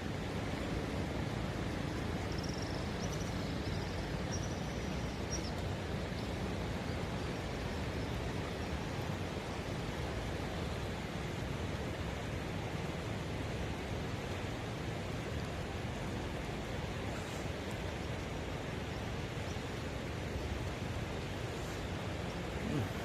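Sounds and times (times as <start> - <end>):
floodwater rushing through weir: 0.0 - 23.0.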